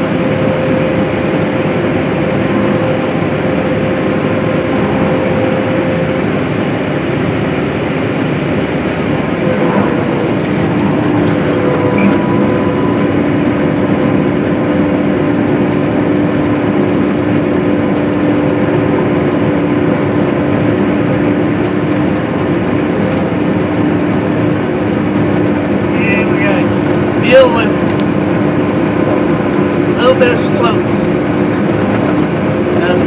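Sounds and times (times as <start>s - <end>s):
machinery engine drone: 0.0s - 33.0s.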